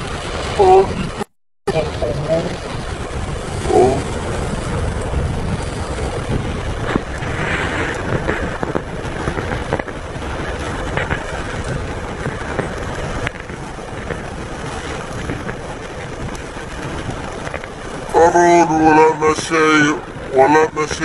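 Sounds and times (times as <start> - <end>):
car road noise: 0.0 - 21.0
heavy rain on car roof: 0.0 - 21.0
sharp rain taps: 0.0 - 21.0.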